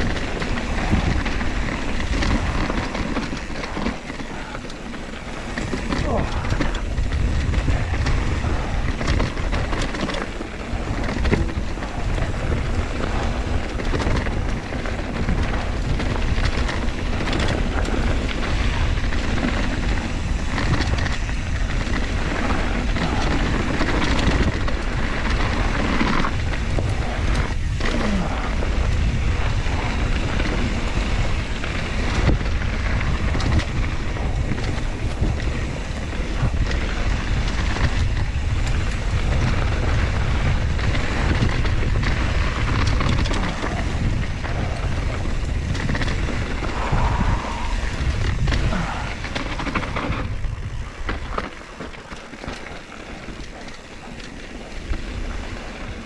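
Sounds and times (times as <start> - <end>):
bike knocking and rattling over rocks: 0.0 - 56.0
bike tyres rolling on dirt: 0.0 - 56.0
wind buffeting microphone: 0.0 - 56.0.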